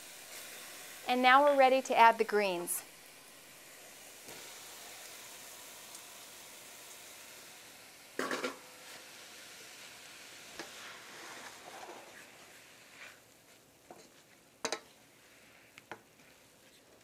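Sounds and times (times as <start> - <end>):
onions sizzling in pan: 0.0 - 16.8.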